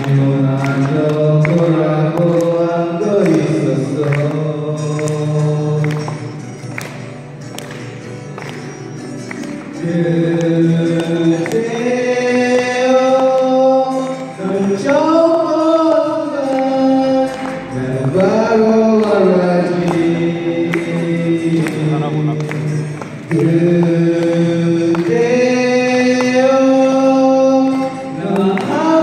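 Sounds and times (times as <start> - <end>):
person singing long notes: 0.0 - 6.4, 9.6 - 29.0
strummed acoustic guitar: 0.0 - 29.0.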